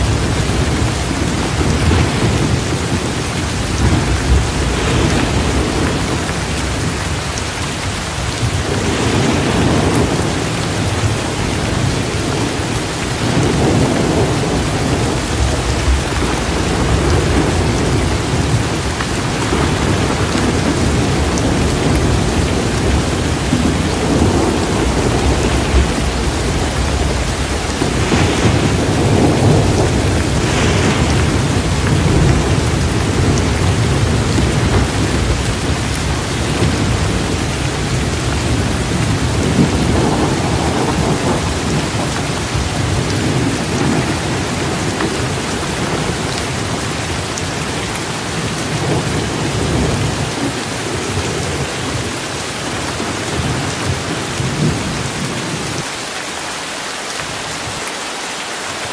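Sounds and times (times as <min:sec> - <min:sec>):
low rolling thunder: 0:00.0 - 0:07.4, 0:08.1 - 0:55.8
heavy rain: 0:00.0 - 0:58.9.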